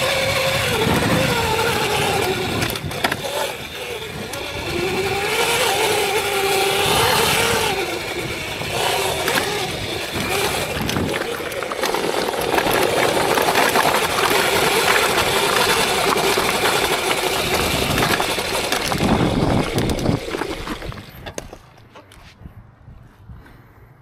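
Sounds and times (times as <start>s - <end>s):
small clicks and rattles: 0.0s - 22.2s
rush of wind and tyre noise: 0.0s - 24.0s.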